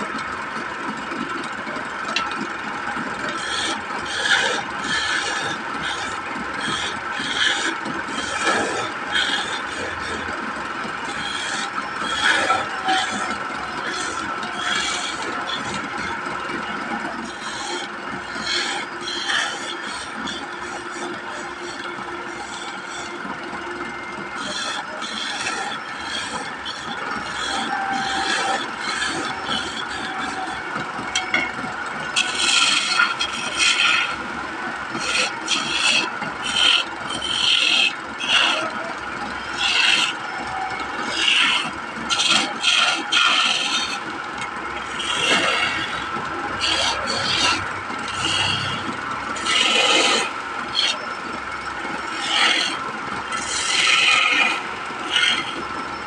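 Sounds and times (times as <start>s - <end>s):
chisel scraping spinning wood: 0.0s - 56.0s
wood lathe whine: 0.0s - 56.0s.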